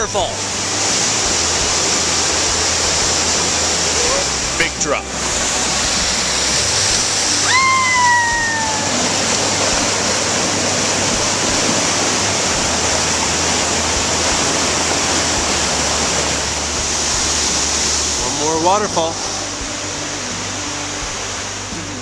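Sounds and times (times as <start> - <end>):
waterfall rushing: 0.0 - 22.0
high note sliding downward: 1.1 - 21.0.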